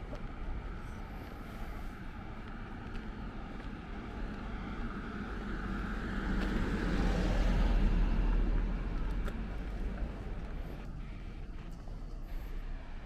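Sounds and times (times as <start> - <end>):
passing vehicle rumble: 0.0 - 13.0.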